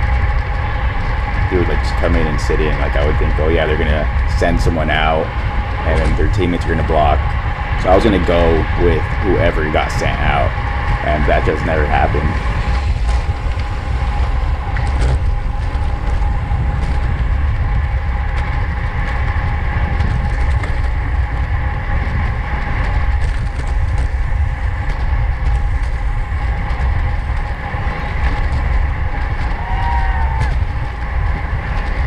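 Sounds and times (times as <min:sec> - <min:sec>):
bicycle road noise: 0:00.0 - 0:32.0
faint steady whine: 0:00.0 - 0:32.0
wind buffeting microphone: 0:00.0 - 0:32.0.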